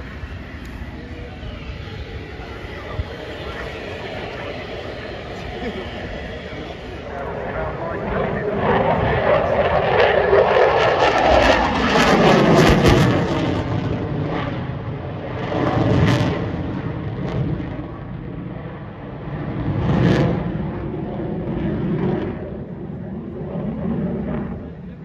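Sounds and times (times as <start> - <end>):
fighter jet flying past: 0.0 - 25.0.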